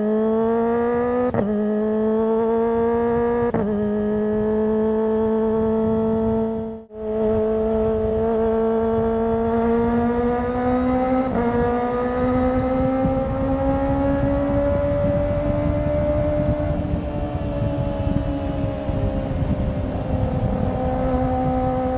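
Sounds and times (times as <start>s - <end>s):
motorcycle engine revving high: 0.0s - 21.9s.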